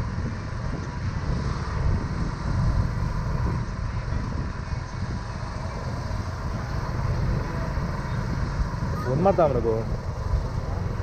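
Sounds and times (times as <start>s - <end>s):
motorcycle engine running: 0.0s - 11.0s
wind on microphone: 0.0s - 11.0s.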